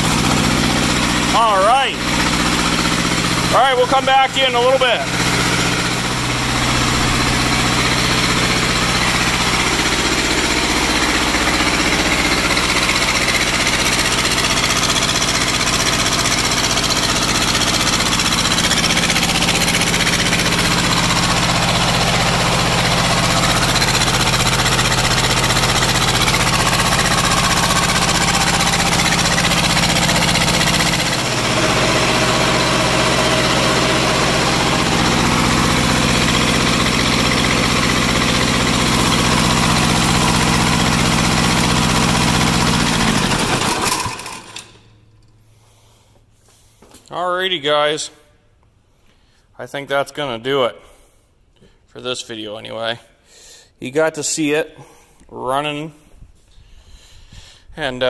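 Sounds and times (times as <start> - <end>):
small diesel engine running: 0.0 - 46.9.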